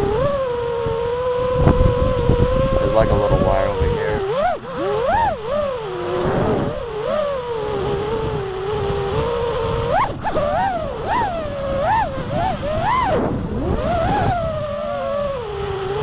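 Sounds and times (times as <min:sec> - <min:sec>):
drone motors whining: 0:00.0 - 0:16.0
wind rumble: 0:00.0 - 0:16.0.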